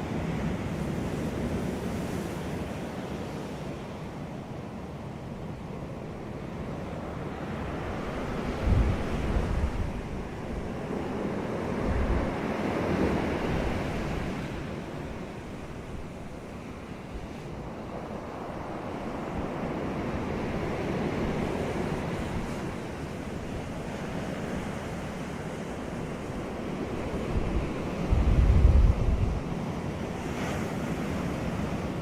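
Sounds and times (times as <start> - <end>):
ocean surf washing onto beach: 0.0 - 32.0.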